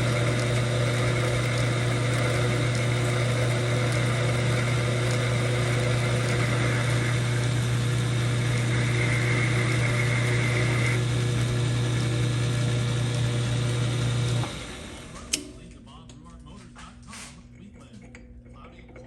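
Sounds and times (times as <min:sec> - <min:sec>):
lathe running with low hum: 0:00.0 - 0:15.8.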